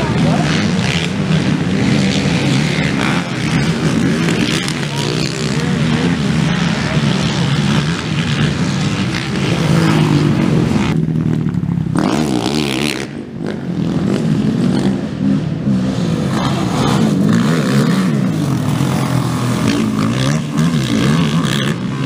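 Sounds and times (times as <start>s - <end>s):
quad engines revving: 0.0s - 22.0s.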